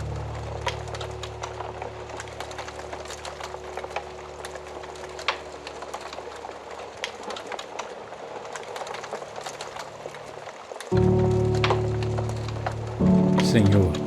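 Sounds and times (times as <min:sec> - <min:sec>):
wood fire crackling: 0:00.0 - 0:14.0
fire pops and snaps: 0:00.1 - 0:13.5.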